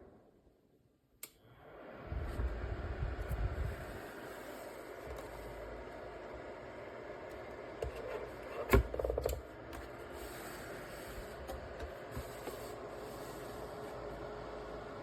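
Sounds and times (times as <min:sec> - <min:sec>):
space heater fan hiss: 0:01.2 - 0:15.0.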